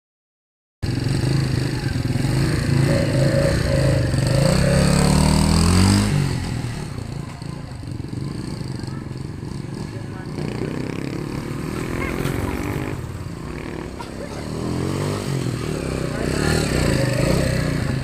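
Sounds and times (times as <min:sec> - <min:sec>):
motorcycle engine revving: 0:00.8 - 0:18.0.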